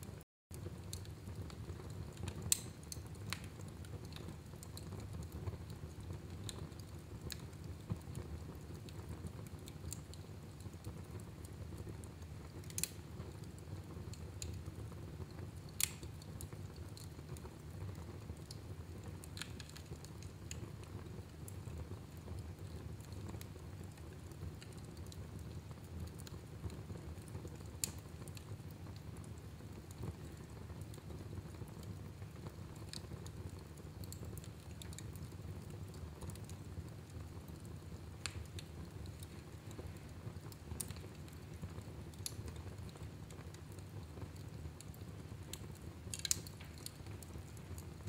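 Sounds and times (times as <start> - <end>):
fire crackling and popping: 0.0 - 48.0
low rumble of fire: 0.0 - 48.0.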